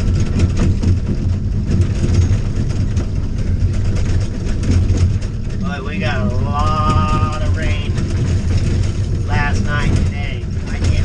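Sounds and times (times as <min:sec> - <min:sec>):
vehicle engine drone: 0:00.0 - 0:11.0
vehicle rattles and knocks: 0:00.0 - 0:11.0.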